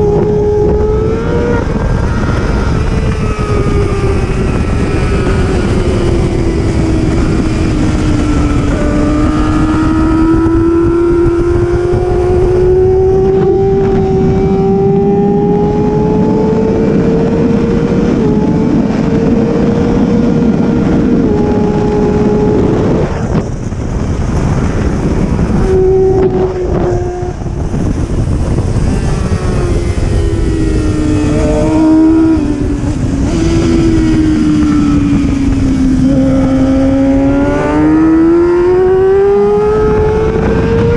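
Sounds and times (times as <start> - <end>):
motorcycle engine revving with gear shifts: 0.0 - 40.9
wind rushing: 0.0 - 40.9.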